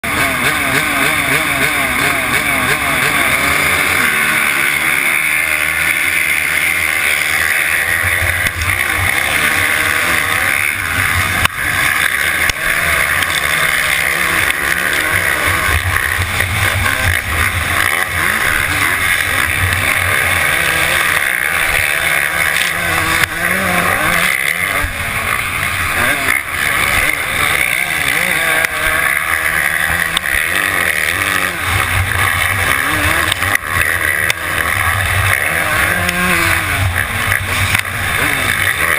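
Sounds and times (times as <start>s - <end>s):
dirt bike engine revving: 0.0s - 38.9s
other dirt bikes: 0.0s - 38.9s.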